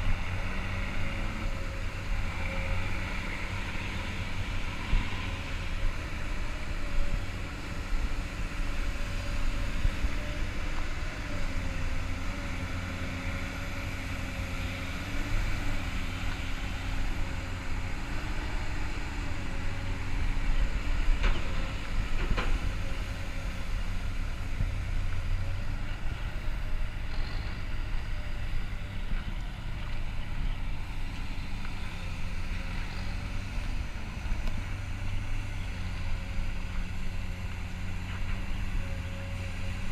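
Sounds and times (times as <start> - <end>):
excavator engine with hydraulic whine: 0.0 - 39.9.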